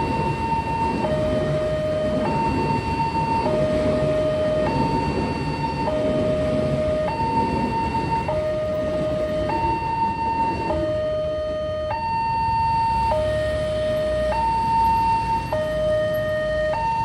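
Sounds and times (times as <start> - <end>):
level crossing alarm two-tone siren: 0.0 - 17.0.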